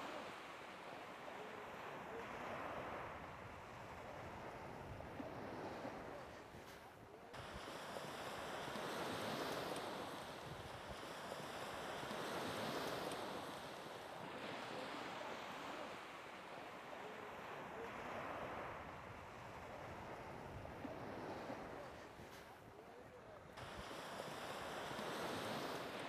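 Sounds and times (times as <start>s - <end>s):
sea surf washing onto beach: 0.0s - 26.0s
wind: 0.0s - 26.0s.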